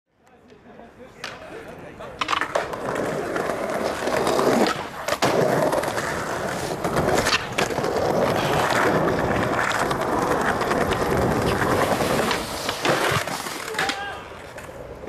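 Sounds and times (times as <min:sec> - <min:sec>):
skateboard clacking on ground: 0:00.2 - 0:15.0
skateboard wheels rolling: 0:00.3 - 0:15.0.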